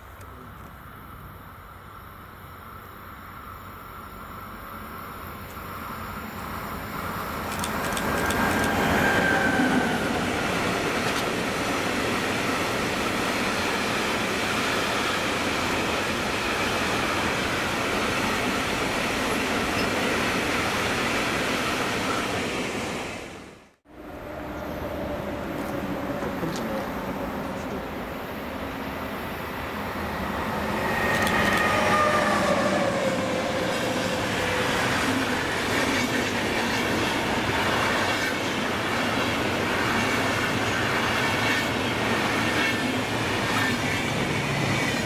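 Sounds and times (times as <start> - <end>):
train passing: 0.0 - 45.0.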